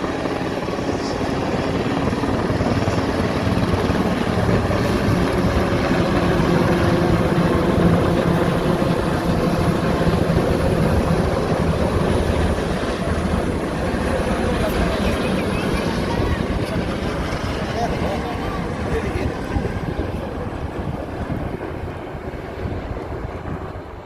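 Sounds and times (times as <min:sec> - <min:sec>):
helicopter flying past: 0:00.0 - 0:24.0.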